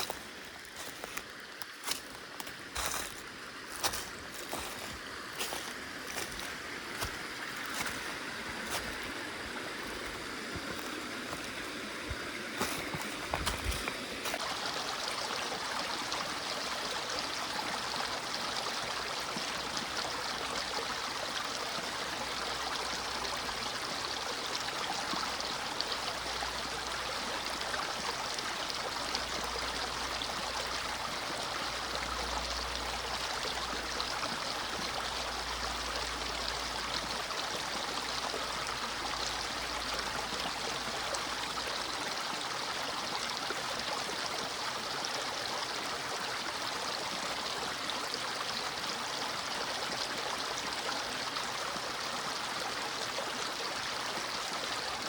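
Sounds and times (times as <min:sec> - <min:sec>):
brook flowing: 0:00.0 - 0:55.0.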